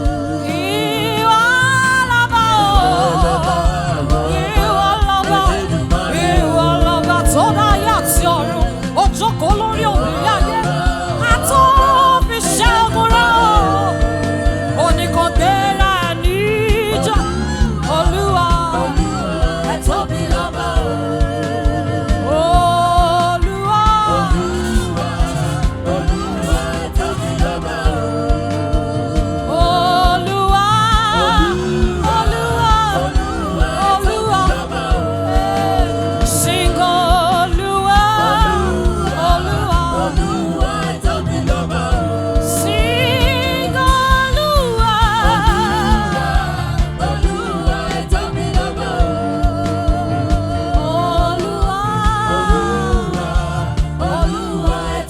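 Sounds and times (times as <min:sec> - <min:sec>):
bass: 0:00.0 - 0:55.0
drum beat: 0:00.0 - 0:55.0
voices singing gospel: 0:00.0 - 0:55.0.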